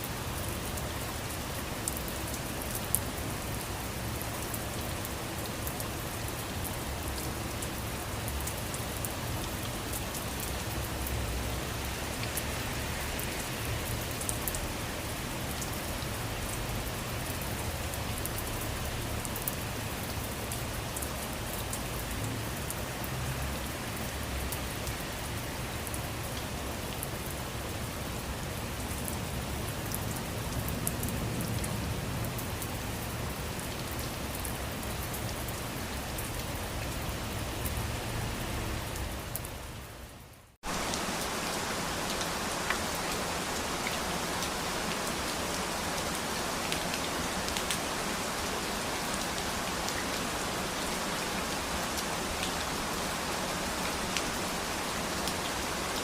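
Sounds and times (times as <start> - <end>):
hissy rain with drop ticks: 0.0 - 56.0
rain with low rumble: 0.0 - 56.0.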